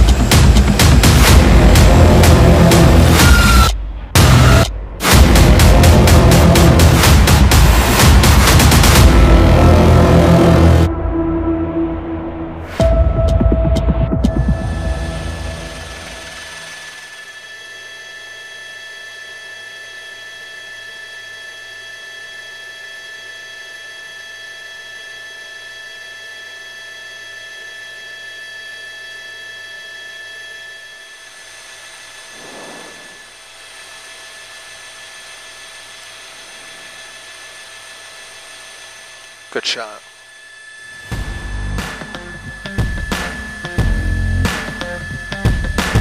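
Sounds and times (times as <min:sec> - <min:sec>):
aircraft turbine engine whine: 0:00.0 - 0:46.0.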